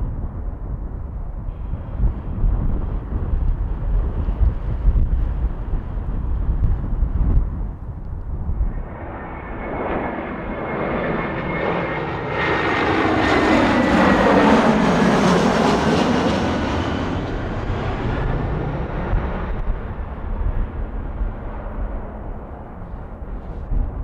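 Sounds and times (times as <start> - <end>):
jet engine whine: 0.0 - 24.0
jet airliner passing: 0.1 - 24.0.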